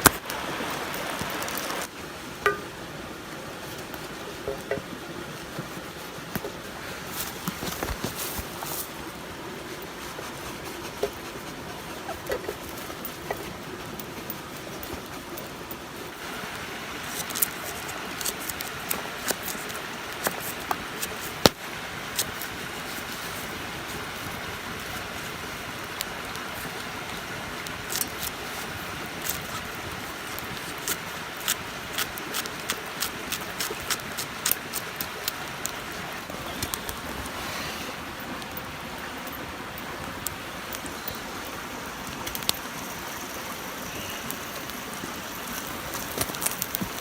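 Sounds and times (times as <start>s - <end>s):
campfire crackling and popping: 0.0s - 2.7s, 7.2s - 37.5s, 38.2s - 47.0s
river rushing: 0.0s - 47.0s.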